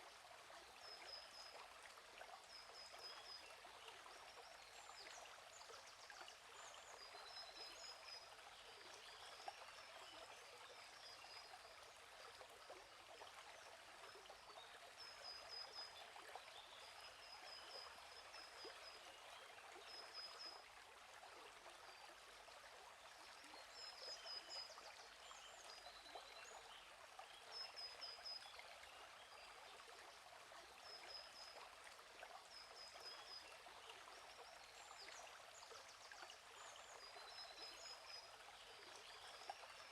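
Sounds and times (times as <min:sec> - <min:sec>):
gently running stream: 0:00.0 - 0:39.9.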